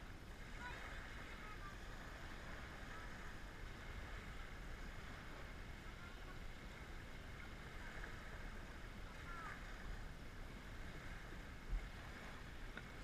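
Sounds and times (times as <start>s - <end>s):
waves washing onto shore: 0.0s - 13.0s
wind noise on microphone: 0.0s - 13.0s.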